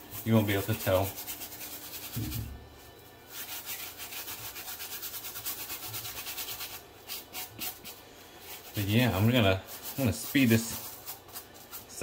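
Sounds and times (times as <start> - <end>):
brush scrubbing leather: 0.0 - 12.0.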